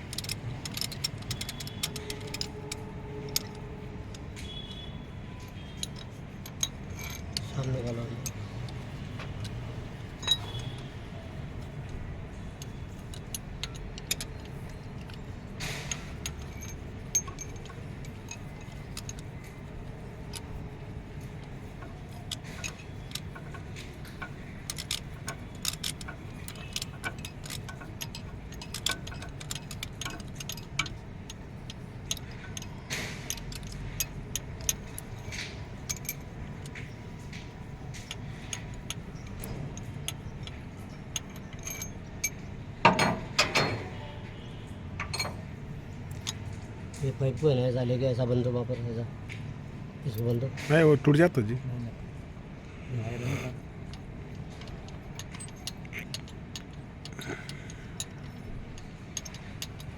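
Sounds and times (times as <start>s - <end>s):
hand tools clinking on metal: 0.0s - 47.6s, 53.3s - 59.9s.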